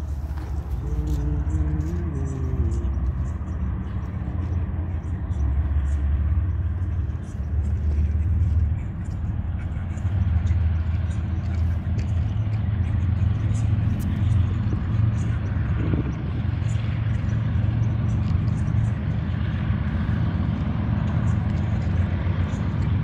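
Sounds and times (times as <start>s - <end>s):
locomotive engine drone: 0.0s - 23.0s.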